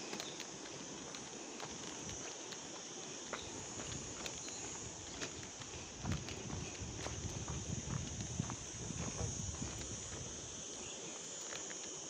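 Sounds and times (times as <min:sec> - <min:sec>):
footsteps on dirt path: 0:00.0 - 0:12.0
high-pitched insect drone: 0:00.0 - 0:12.0.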